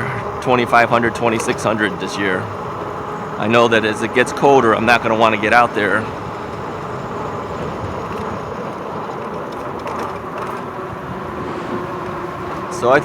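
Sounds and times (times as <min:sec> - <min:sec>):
bicycle tyre hum on trail: 0:00.0 - 0:13.0
wind: 0:00.0 - 0:13.0.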